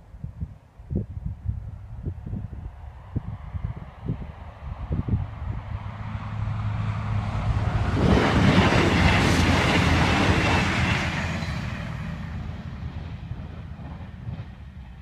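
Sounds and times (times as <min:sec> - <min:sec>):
train passing at speed: 0:01.5 - 0:15.0.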